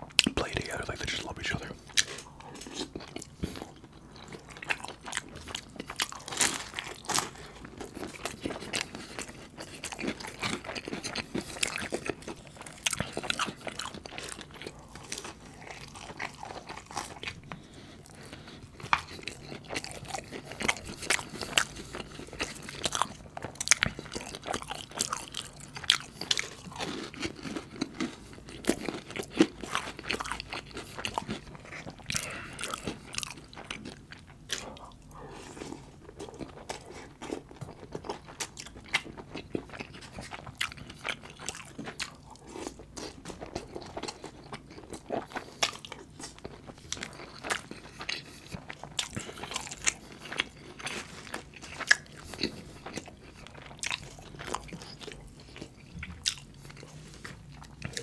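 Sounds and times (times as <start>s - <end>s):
chewing with crunches: 0.0s - 58.0s.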